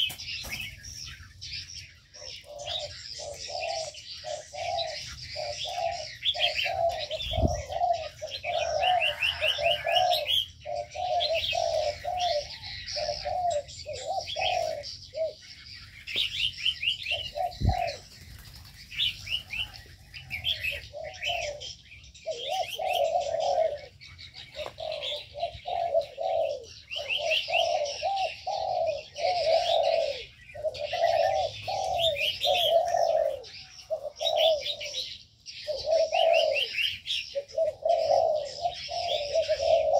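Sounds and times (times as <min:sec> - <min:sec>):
doves cooing: 0:00.0 - 0:39.9
small birds chirping and trilling: 0:00.0 - 0:39.9.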